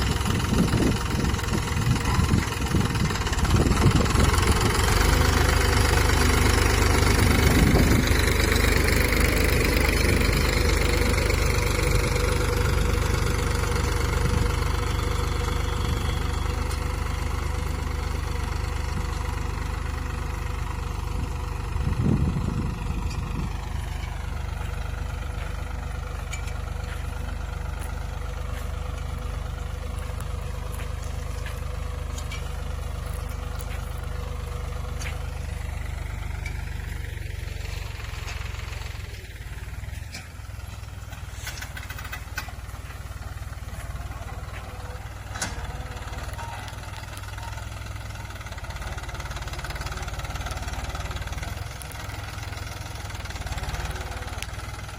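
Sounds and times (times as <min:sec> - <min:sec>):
tractor engine rumbling: 0:00.0 - 0:54.9.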